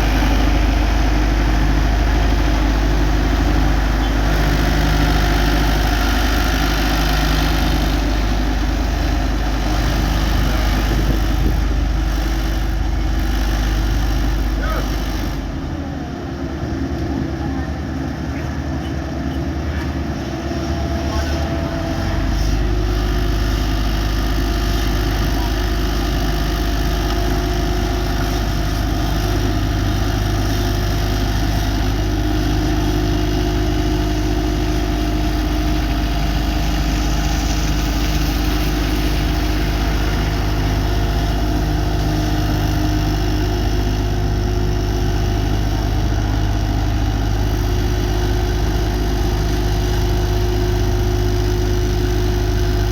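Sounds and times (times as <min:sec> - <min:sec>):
diesel engine rumbling: 0:00.0 - 0:52.9.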